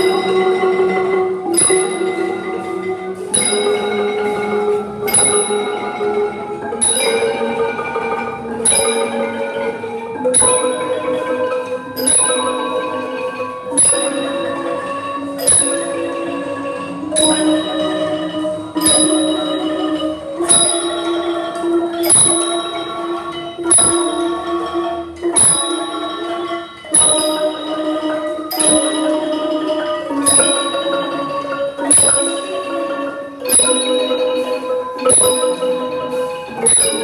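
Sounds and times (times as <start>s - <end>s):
mallet instrument tremolo roll: 0.0s - 37.0s.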